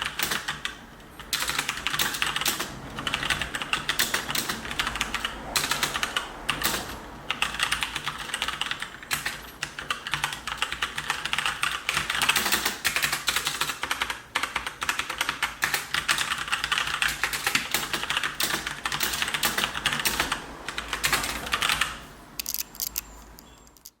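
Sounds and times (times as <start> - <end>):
mechanical keyboard typing: 0.0 - 24.0.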